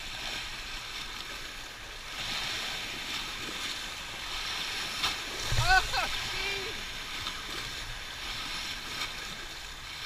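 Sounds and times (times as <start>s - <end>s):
small waves lapping over rock: 0.0s - 10.0s.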